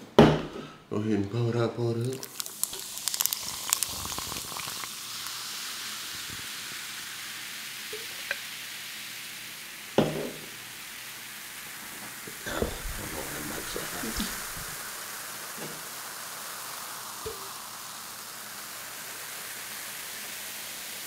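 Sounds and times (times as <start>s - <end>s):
soda fizzing over ice: 2.0s - 21.0s.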